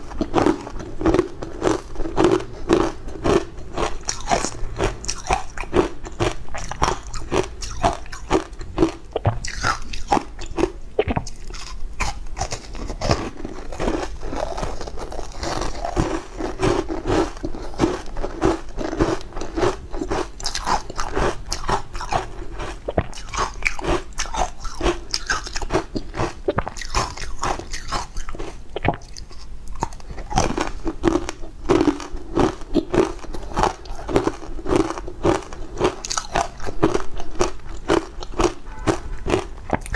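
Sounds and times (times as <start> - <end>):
ice cubes crunching when chewed: 0.0 - 39.9.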